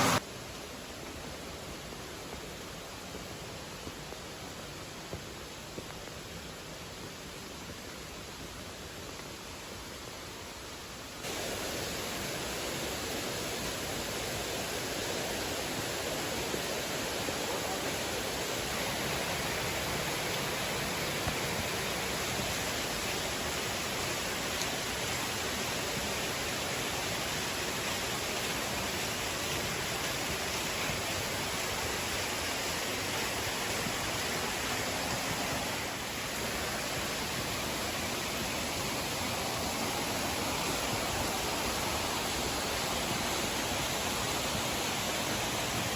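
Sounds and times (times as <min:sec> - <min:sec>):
flowing water rushing: 0:00.0 - 0:45.9.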